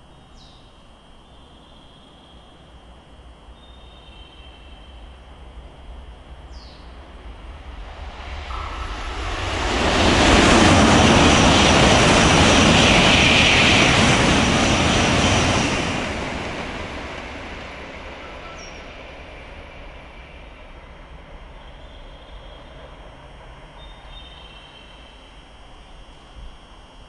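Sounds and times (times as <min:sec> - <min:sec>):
high-speed train rushing past: 0:02.6 - 0:27.0.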